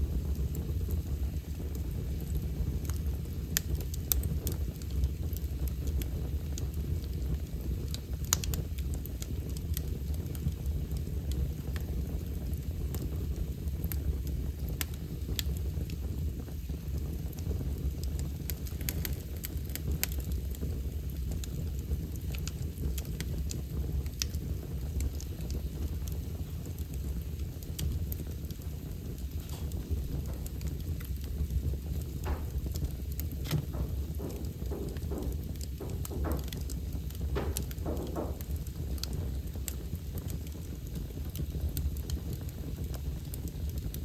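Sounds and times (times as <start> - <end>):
fire crackling and popping: 0.0 - 44.0
low rumble of fire: 0.0 - 44.0.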